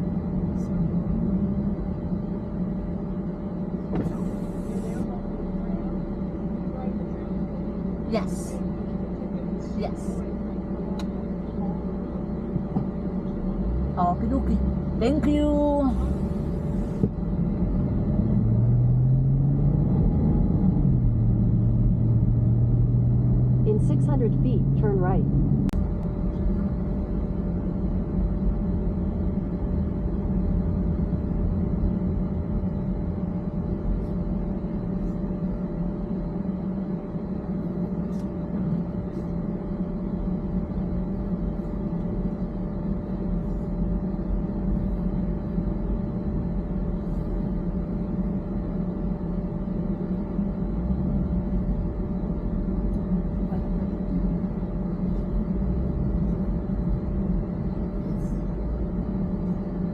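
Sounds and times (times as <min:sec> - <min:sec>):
faint constant hum: 0:00.0 - 0:59.9
road and engine rumble in car: 0:00.0 - 0:59.9.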